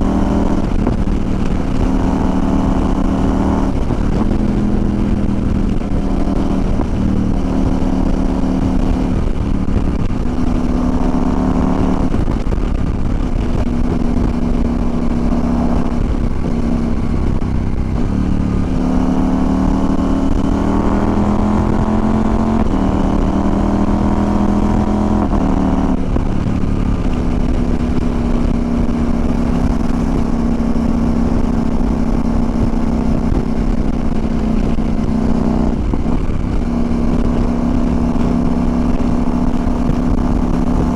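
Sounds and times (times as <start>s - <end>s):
motorcycle engine shifting gears: 0.0s - 40.9s
wind rush on microphone: 0.0s - 40.9s.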